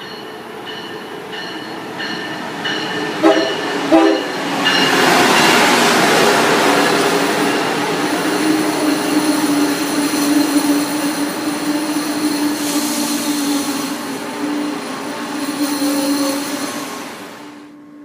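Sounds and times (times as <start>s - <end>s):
train wheels rumbling on rails: 0.0s - 17.6s.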